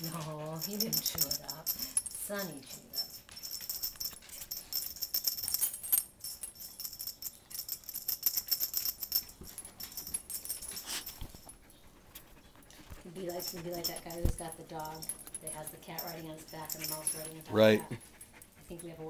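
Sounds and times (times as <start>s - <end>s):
small bell jingling: 0.0s - 11.7s, 13.0s - 19.0s.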